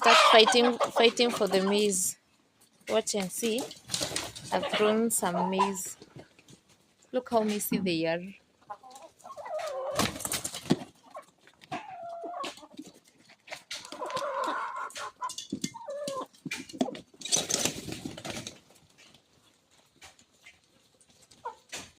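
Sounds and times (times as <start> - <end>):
chickens clucking and squawking: 0.0 - 22.0.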